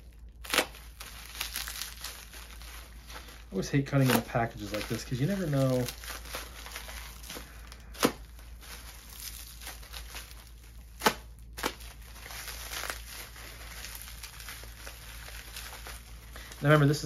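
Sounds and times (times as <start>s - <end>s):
packaging crinkling and rustling: 0.0s - 17.0s
packaging being cut and torn: 0.4s - 16.6s.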